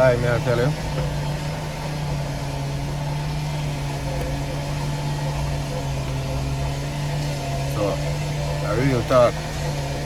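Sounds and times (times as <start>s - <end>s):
road noise: 0.0s - 10.0s
vehicle engine hum: 0.0s - 10.0s.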